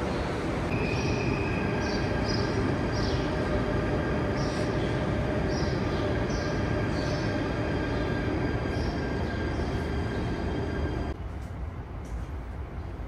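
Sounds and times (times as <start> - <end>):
electric train humming: 0.0 - 11.2.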